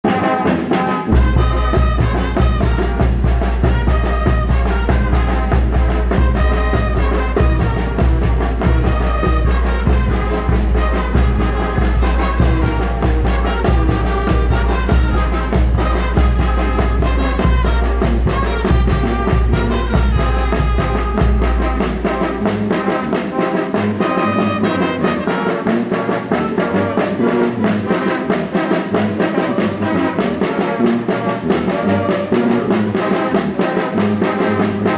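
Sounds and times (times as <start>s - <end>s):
brass band playing: 0.0s - 34.9s.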